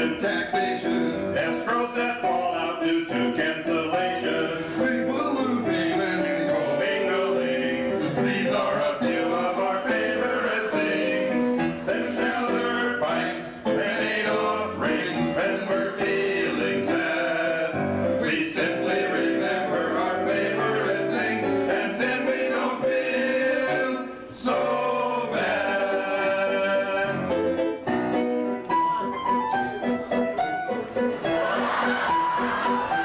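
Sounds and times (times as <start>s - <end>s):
voices singing: 0.0s - 27.8s
instrumental accompaniment: 0.0s - 33.0s.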